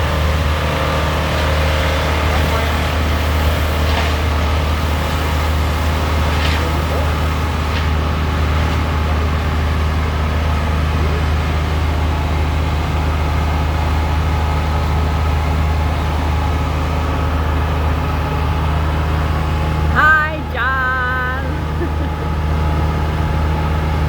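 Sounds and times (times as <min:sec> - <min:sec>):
wood chipper engine drone: 0:00.0 - 0:24.0.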